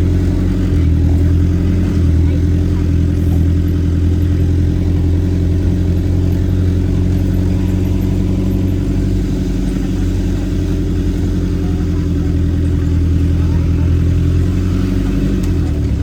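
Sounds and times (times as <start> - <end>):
off-road vehicle engine humming: 0.0 - 16.0.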